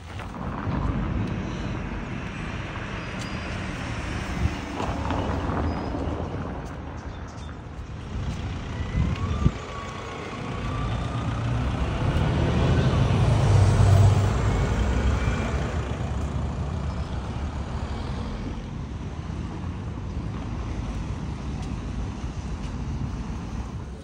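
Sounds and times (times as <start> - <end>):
large vehicle passing: 0.0 - 24.0.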